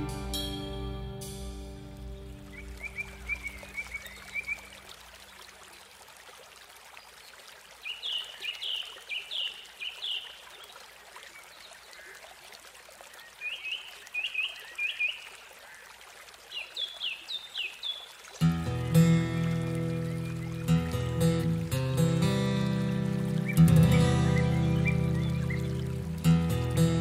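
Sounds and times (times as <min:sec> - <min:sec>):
songbird chirping: 0:00.0 - 0:05.6, 0:07.1 - 0:12.3, 0:13.1 - 0:15.8, 0:16.5 - 0:27.0
water running over rocks: 0:00.0 - 0:27.0.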